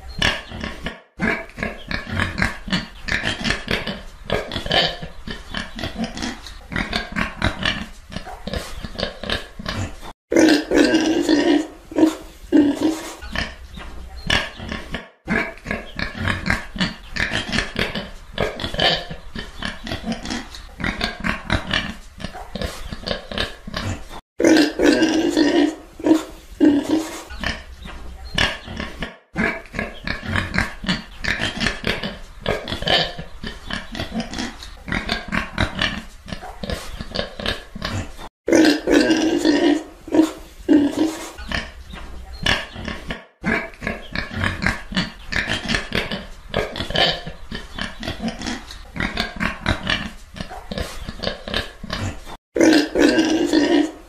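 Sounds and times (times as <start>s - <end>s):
pigs grunting and oinking: 0.0s - 54.0s.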